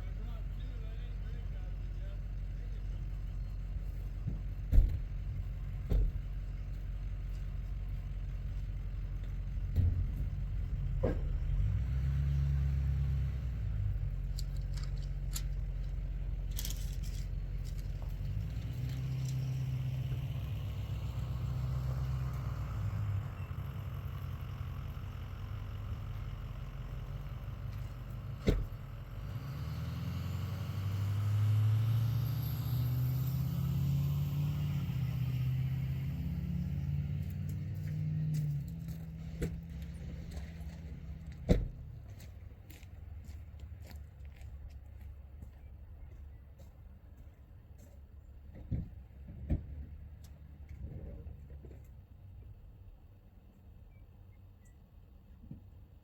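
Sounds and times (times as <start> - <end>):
engine running: 0.0 - 53.6.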